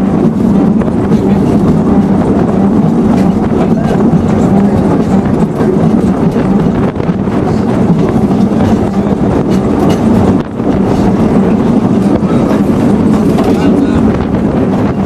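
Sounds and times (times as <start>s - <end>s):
train clicks and knocks: 0.0s - 15.0s
train rumbling: 0.0s - 15.0s.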